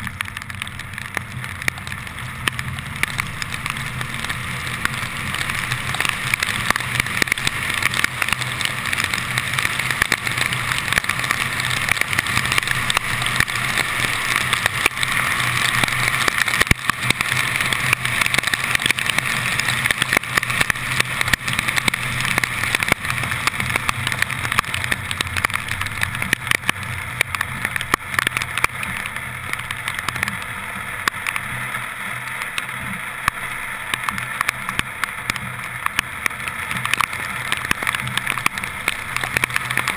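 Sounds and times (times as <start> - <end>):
low engine hum: 0.0 - 39.9
rain ticking on camera: 0.0 - 39.9
tyres hissing on wet road: 0.0 - 39.9.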